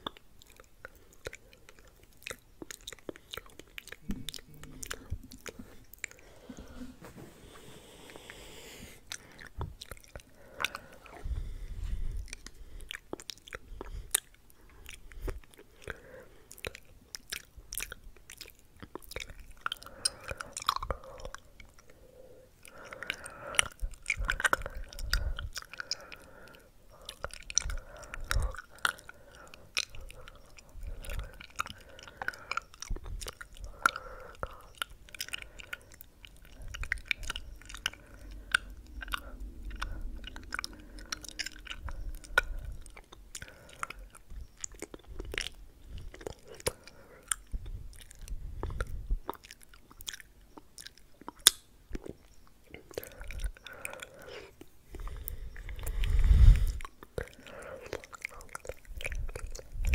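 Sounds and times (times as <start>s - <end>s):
mouth clicks: 0.0s - 6.8s, 8.0s - 59.9s.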